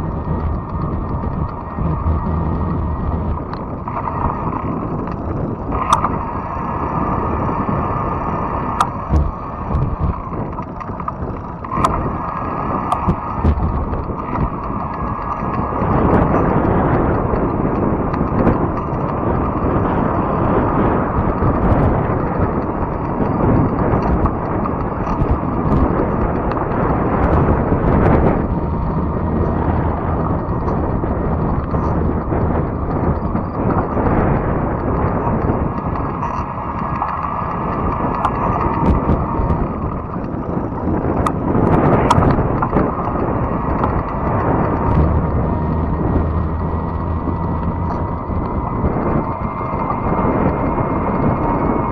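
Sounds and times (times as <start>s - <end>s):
bike tyre noise on trail: 0.0s - 51.9s
sharp ticks: 0.0s - 51.9s
wind rushing: 0.0s - 51.9s.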